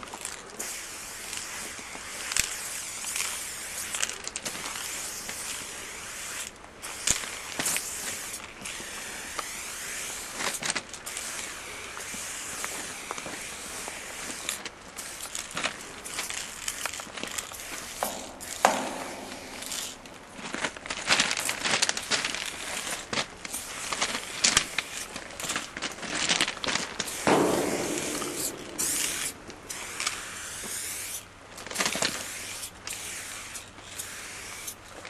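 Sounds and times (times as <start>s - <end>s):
spray paint can hissing: 0.6s - 20.0s, 21.1s - 25.6s, 27.0s - 34.8s.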